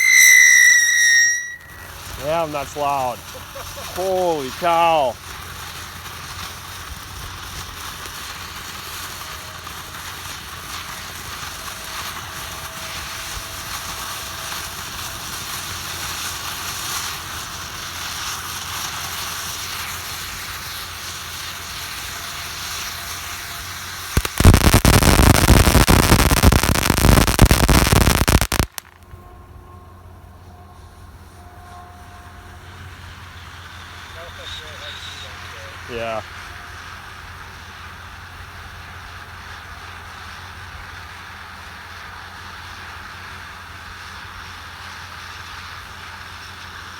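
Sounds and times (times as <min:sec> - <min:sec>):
fireworks crackling: 0:00.0 - 0:29.2, 0:32.6 - 0:46.9.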